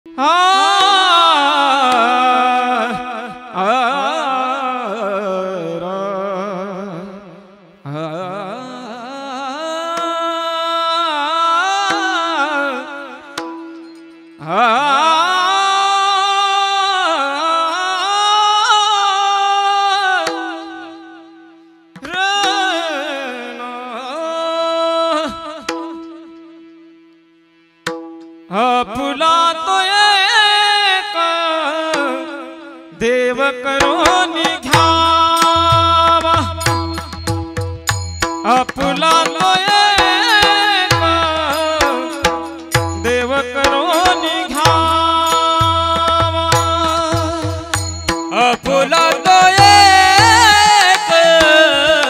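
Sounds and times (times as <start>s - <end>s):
man singing wordless melody: 0.1s - 27.2s, 28.4s - 52.0s.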